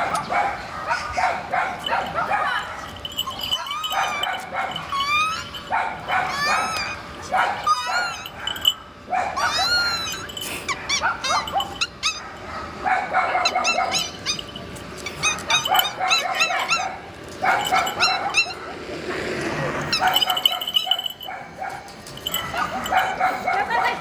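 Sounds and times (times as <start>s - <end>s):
dog barking and yelping: 0.0s - 24.0s.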